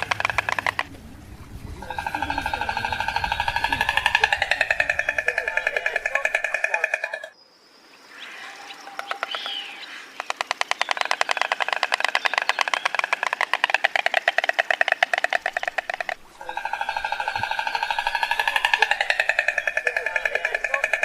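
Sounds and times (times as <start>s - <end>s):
stork clattering its bill: 0.0s - 7.3s, 8.9s - 21.0s.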